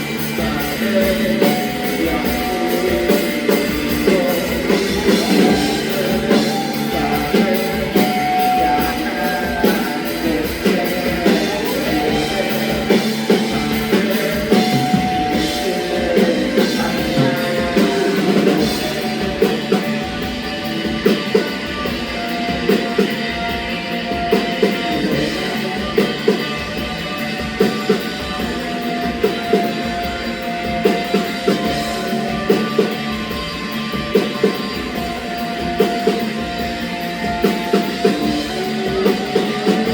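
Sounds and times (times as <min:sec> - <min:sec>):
drum kit steady beat: 0:00.0 - 0:39.9
electric guitar: 0:00.0 - 0:39.9
rock band playing: 0:00.0 - 0:39.9.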